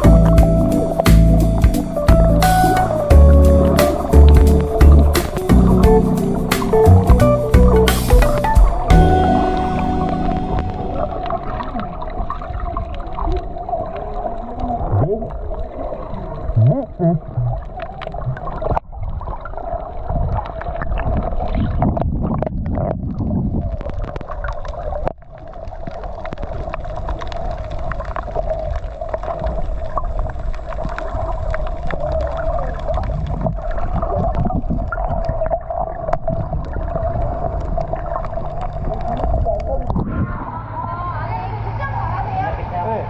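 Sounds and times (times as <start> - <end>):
crackles: 0.0 - 42.3
muffled underwater rumbling: 0.0 - 43.0.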